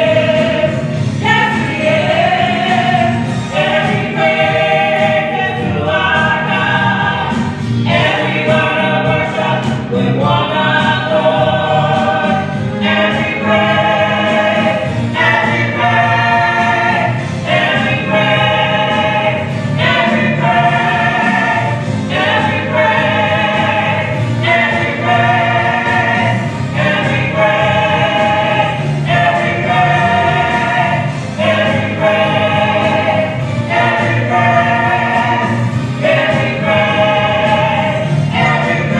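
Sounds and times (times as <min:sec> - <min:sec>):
gospel choir singing: 0:00.0 - 0:38.9
instrumental accompaniment: 0:00.0 - 0:38.9.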